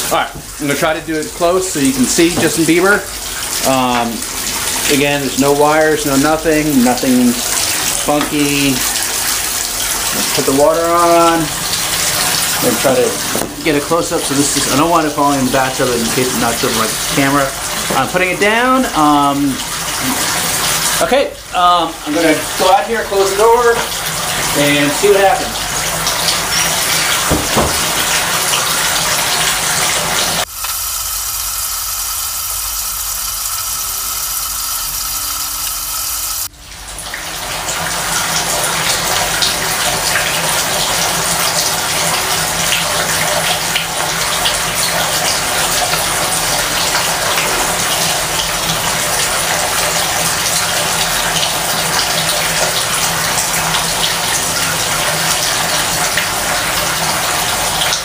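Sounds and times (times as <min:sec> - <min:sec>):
faucet water gushing into tub: 0:00.0 - 0:58.0.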